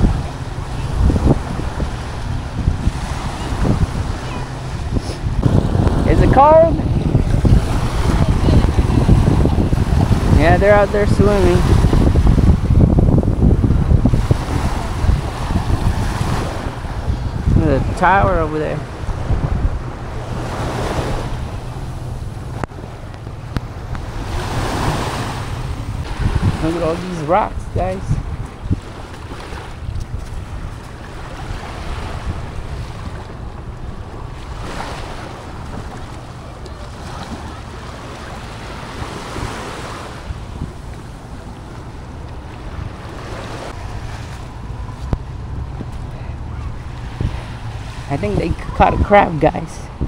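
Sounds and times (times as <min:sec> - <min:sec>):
small waves washing on shore: 0:00.0 - 0:50.0
wind rumbling on microphone: 0:00.0 - 0:50.0.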